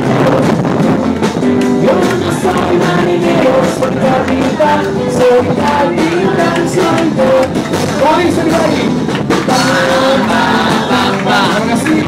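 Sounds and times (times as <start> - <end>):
guitars: 0.0 - 12.0
man singing into a microphone: 1.8 - 12.0.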